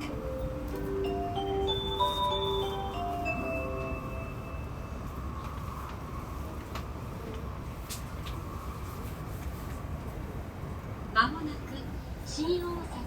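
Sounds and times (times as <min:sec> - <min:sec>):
train interior low rumble: 0:00.0 - 0:13.0.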